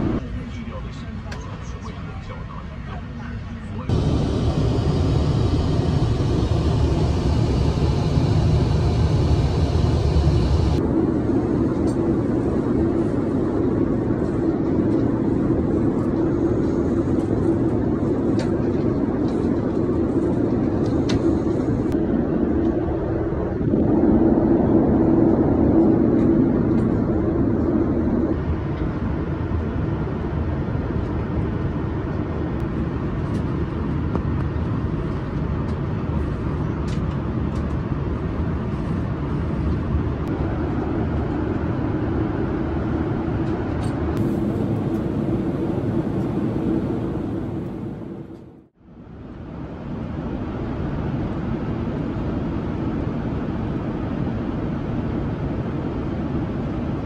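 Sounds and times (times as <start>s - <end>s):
airplane cabin noise: 0.0s - 57.0s.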